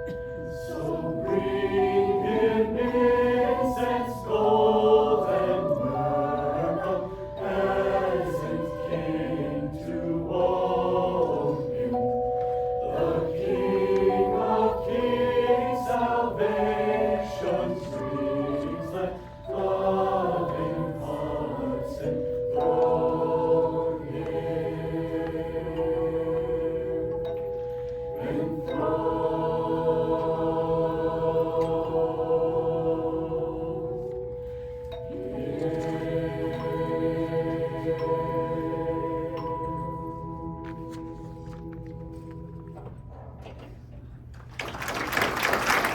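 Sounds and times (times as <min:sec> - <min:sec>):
choir singing a carol: 0:00.0 - 0:43.7.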